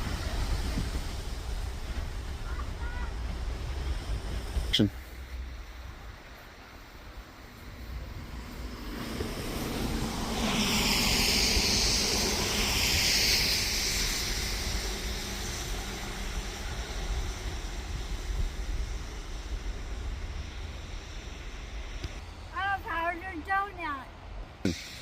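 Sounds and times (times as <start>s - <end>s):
wind on microphone: 0.0s - 6.3s, 7.6s - 22.4s
sled hissing on snow: 0.0s - 23.6s, 24.6s - 25.0s.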